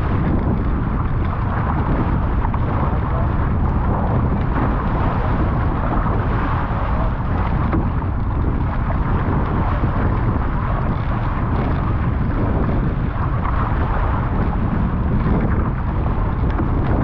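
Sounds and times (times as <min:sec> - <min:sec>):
water rushing past hulls: 0:00.0 - 0:17.0
wind buffeting microphone: 0:00.0 - 0:17.0.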